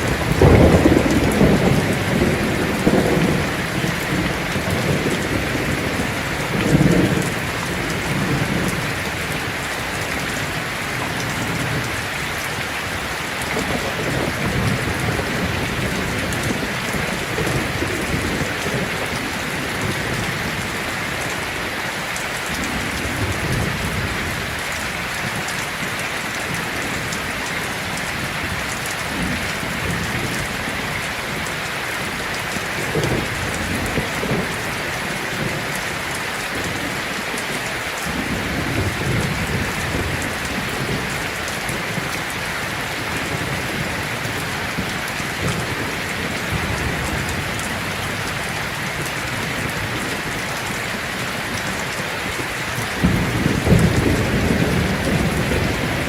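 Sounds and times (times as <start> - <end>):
heavy rain on a tin roof: 0.0 - 56.0
low thunder rumbling: 0.0 - 56.0.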